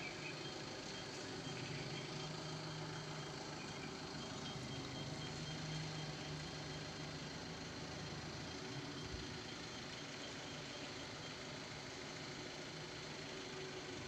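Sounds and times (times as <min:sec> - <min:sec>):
diesel engine running low revs: 0:00.0 - 0:14.0.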